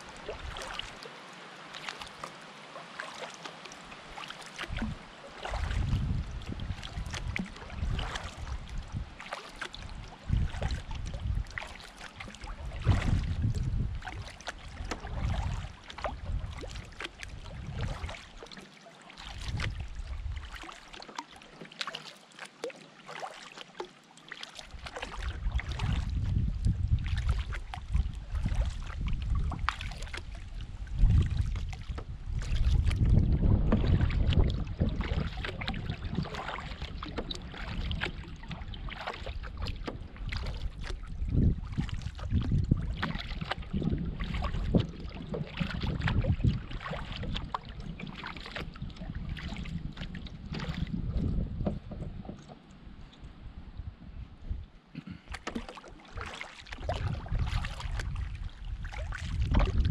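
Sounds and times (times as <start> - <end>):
paddle strokes splashing: 0.0 - 59.9
wind rumbling on microphone: 4.6 - 18.4, 19.4 - 20.7, 24.7 - 59.9.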